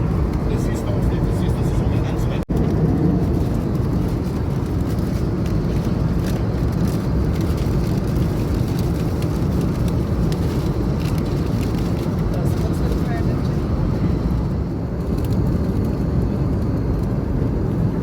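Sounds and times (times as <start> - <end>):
airplane cabin engine rush: 0.0 - 18.0.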